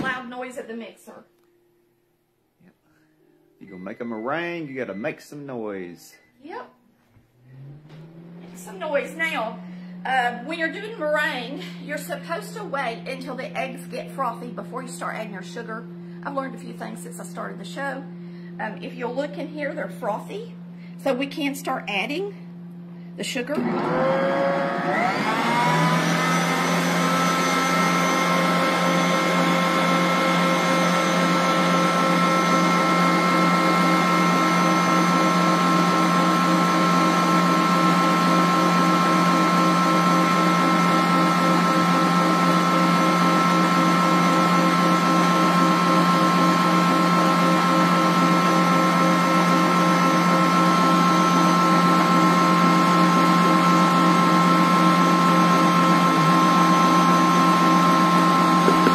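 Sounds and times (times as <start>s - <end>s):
stand mixer motor whine: 7.2s - 21.3s, 21.9s - 58.9s.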